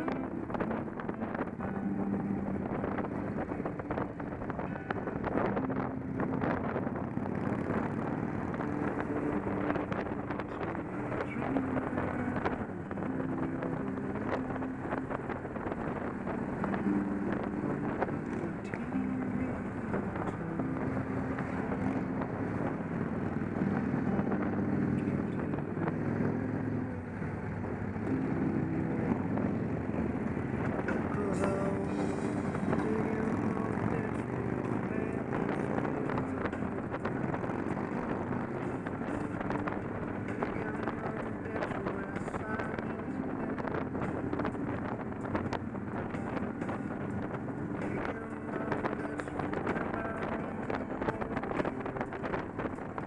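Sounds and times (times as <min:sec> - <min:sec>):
motorcycle engine running: 0:00.0 - 0:53.0
wind rush on microphone: 0:00.0 - 0:53.0.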